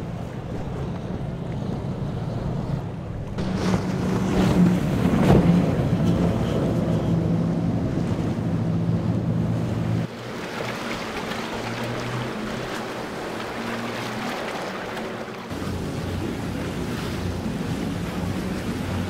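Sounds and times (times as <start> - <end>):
boat engines running: 0.0 - 19.0
waves: 0.0 - 19.0.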